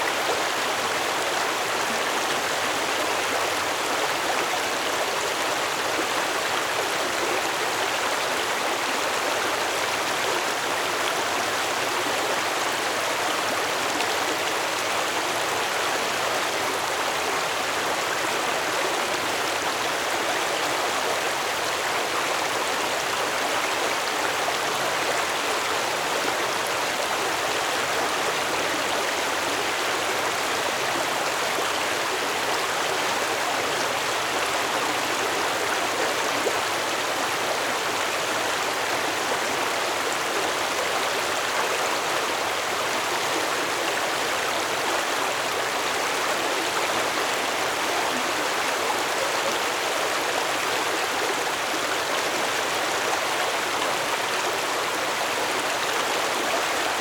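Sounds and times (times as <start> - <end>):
stream water flowing over stones: 0.0 - 57.0.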